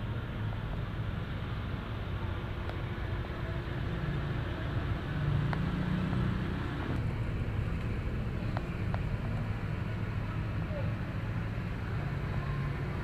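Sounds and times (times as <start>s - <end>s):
bus diesel engine idling: 0.0s - 5.5s, 6.4s - 13.0s.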